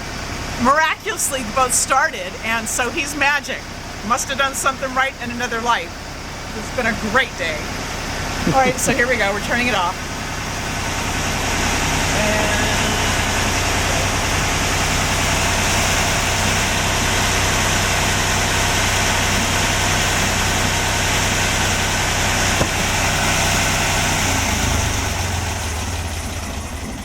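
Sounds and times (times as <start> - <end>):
marine diesel engine idling: 0.0 - 27.0.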